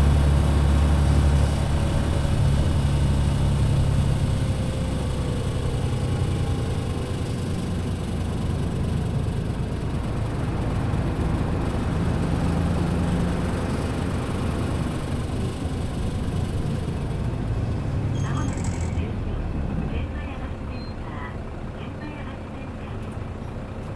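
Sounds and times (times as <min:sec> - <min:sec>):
bus engine drone: 0:00.0 - 0:23.9
road noise: 0:00.0 - 0:23.9.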